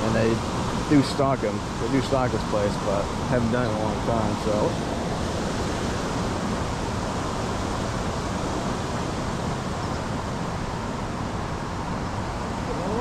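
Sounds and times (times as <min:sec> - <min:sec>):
water rushing through a dam: 0:00.0 - 0:13.0.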